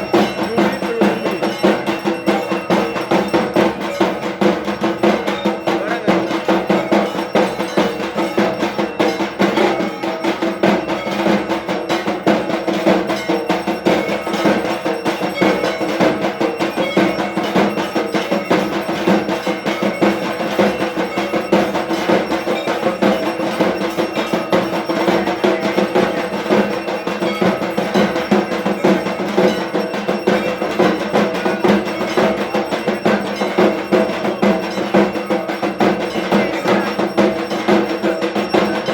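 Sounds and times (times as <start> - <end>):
bells clanging: 0.0 - 38.9
drums beaten fast: 0.0 - 38.9.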